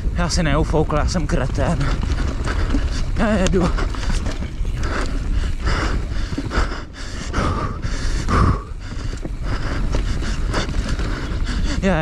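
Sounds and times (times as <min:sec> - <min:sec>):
low riding rumble: 0:00.0 - 0:12.0
heavy panting breaths: 0:01.5 - 0:12.0.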